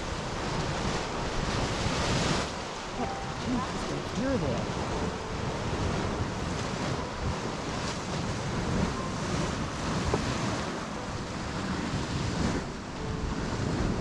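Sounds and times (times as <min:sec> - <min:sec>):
hot spring pool churning: 0:00.0 - 0:14.0
wind buffeting microphone: 0:00.0 - 0:14.0.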